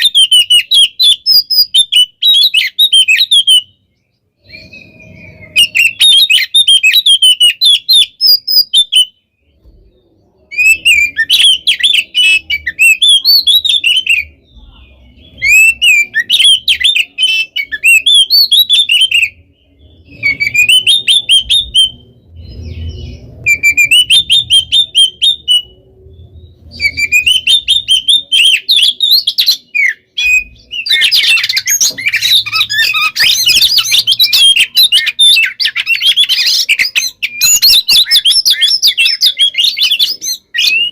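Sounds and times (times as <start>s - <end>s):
magpie-robin singing: 0.0s - 40.9s.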